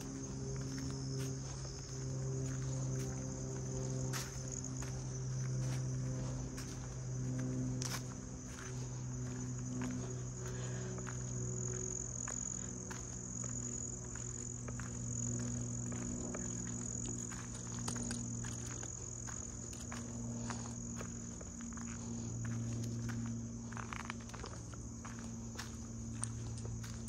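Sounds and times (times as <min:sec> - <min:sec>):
high-pitched insect drone: 0:00.0 - 0:27.0
transformer electrical hum: 0:00.0 - 0:27.0.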